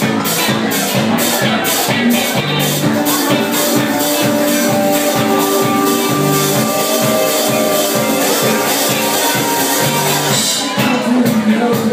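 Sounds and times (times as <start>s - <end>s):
live rock band music: 0.0s - 11.9s
congas playing: 0.9s - 10.5s.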